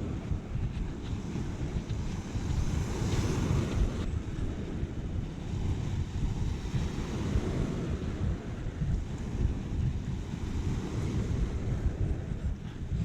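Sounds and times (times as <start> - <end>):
sea waves washing on shore: 0.0 - 13.0
wind buffeting microphone: 0.0 - 13.0.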